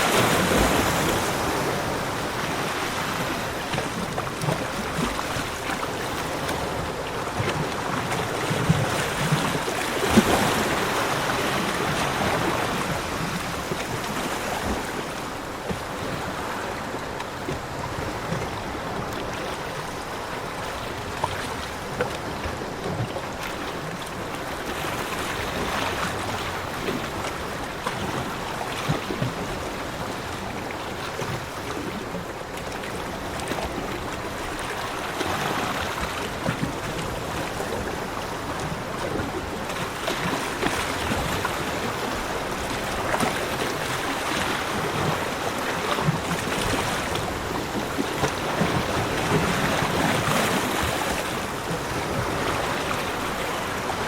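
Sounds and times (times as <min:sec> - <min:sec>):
sea waves washing onto shore: 0:00.0 - 0:54.0.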